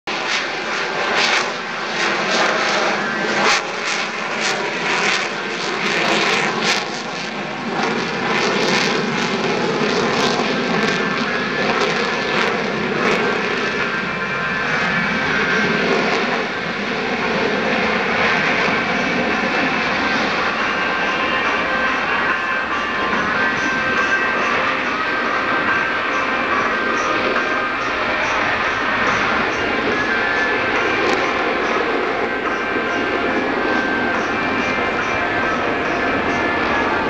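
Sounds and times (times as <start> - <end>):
jet engine roar: 0.1 - 37.0.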